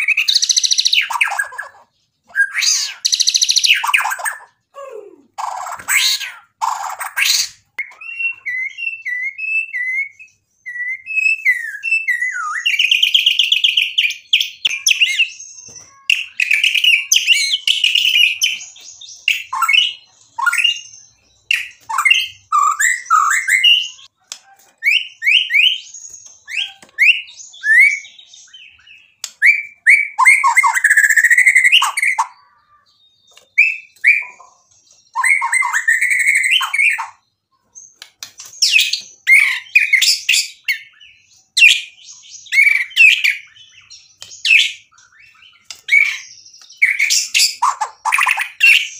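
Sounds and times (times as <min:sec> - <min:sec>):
songbird singing varied song: 0:00.0 - 0:48.9.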